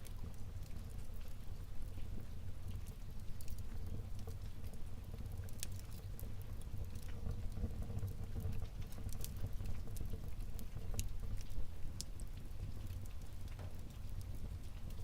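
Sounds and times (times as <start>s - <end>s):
crackles and snaps of burning logs: 0.0s - 15.0s
low rumble of flames: 0.0s - 15.0s.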